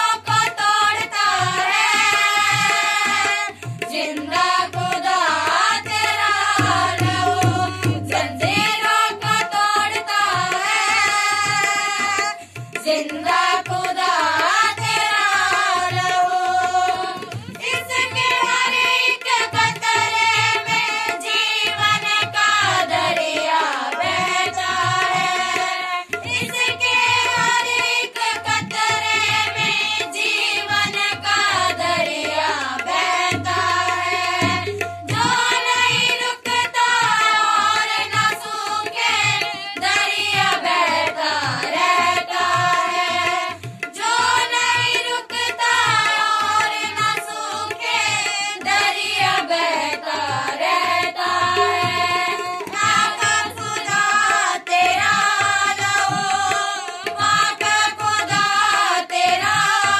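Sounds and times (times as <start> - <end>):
hand drum beat: 0.3 - 12.2, 12.8 - 59.9.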